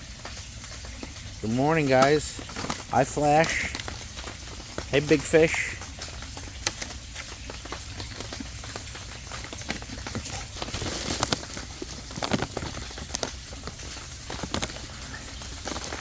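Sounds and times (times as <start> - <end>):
rain pattering on water: 0.0 - 16.0
fish slurping wet pops: 0.8 - 16.0.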